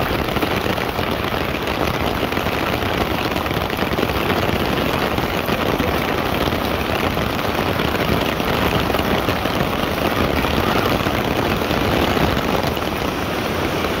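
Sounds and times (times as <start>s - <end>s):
heavy rain on pavement: 0.0s - 14.0s
rain pattering on plastic umbrella: 0.0s - 14.0s.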